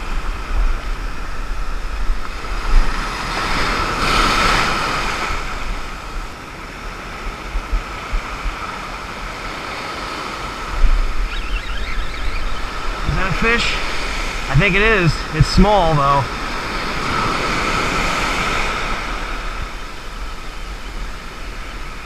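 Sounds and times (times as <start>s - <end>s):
ocean surf breaking: 0.0s - 22.0s
wind gusting on microphone: 0.0s - 22.0s.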